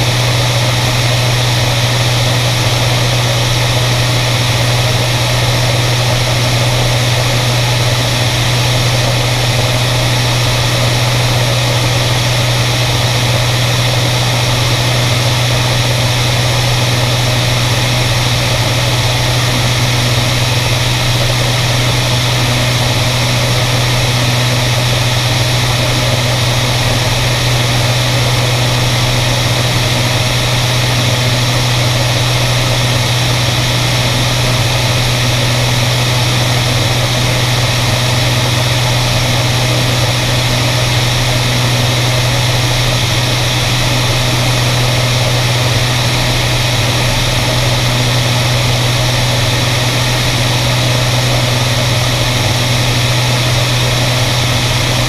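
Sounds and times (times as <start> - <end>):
propeller airplane engine droning: 0.0 - 55.0.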